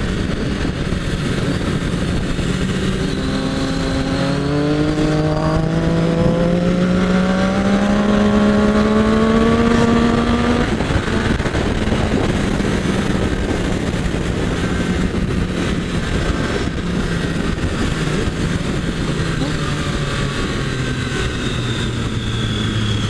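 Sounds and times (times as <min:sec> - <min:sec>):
motorcycle engine accelerating: 0:00.0 - 0:23.0
wind rush on microphone: 0:00.0 - 0:23.0.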